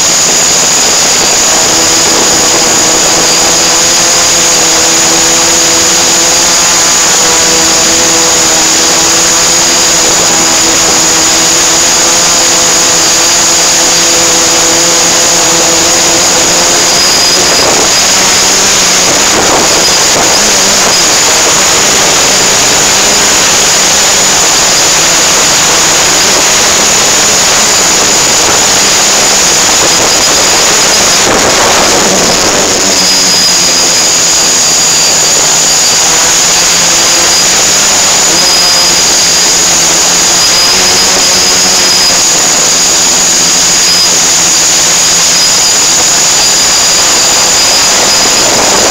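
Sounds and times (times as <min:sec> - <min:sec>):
aircraft propeller engine running: 0:00.0 - 0:48.9
constant high whine: 0:00.0 - 0:48.9
loud wind rush: 0:00.0 - 0:48.9
low humming: 0:00.0 - 0:48.9.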